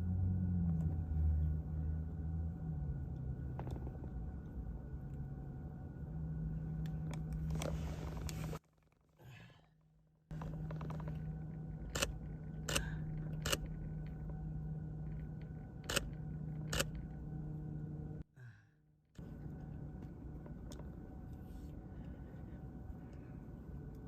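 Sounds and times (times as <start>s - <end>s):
steady background hum: 0.0s - 8.6s, 9.2s - 24.0s.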